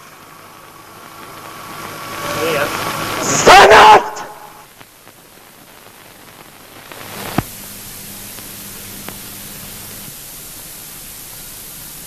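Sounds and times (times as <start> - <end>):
film soundtrack hiss and static: 0.0 - 12.0.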